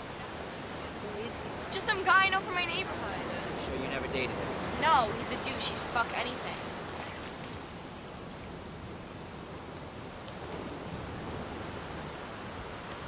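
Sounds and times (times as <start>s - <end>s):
ocean surf on beach: 0.0s - 13.0s.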